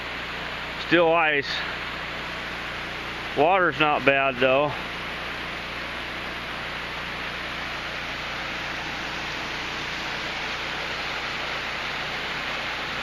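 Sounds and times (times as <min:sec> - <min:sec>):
mountain creek rushing: 0:00.0 - 0:13.0.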